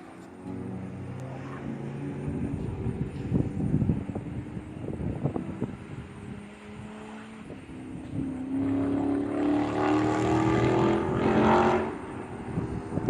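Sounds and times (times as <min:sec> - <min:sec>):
car exhaust accelerating: 0:00.0 - 0:13.0.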